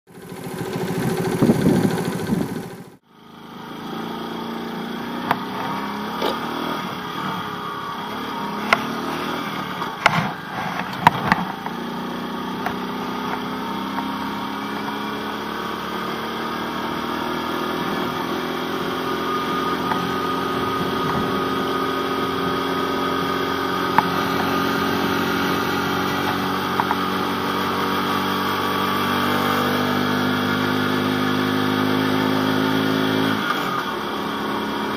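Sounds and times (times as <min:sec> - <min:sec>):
small motorcycle engine running: 0:00.1 - 0:34.9.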